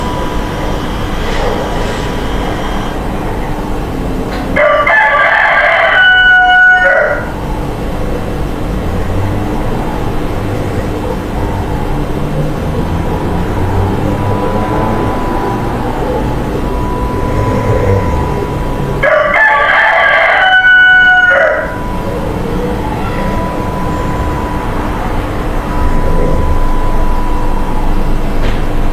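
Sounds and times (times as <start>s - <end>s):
steady background hum: 0.0s - 28.9s
loud drawn-out animal calls: 0.3s - 27.1s.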